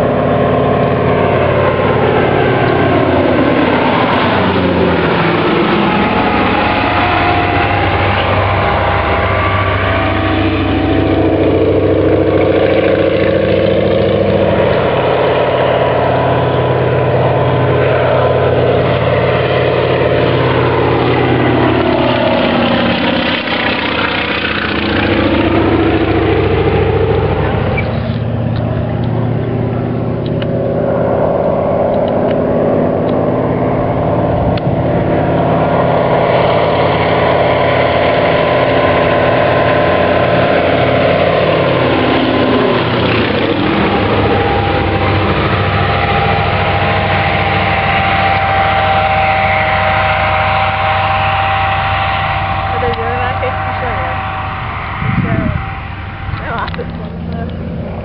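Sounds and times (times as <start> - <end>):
propeller plane engine droning: 0.0 - 58.0.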